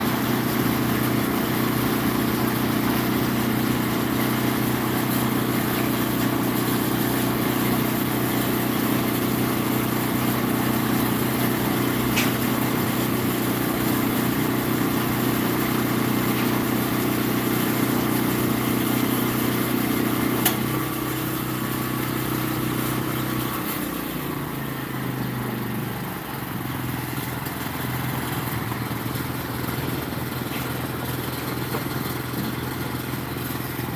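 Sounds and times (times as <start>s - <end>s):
engine humming: 0.0s - 33.9s.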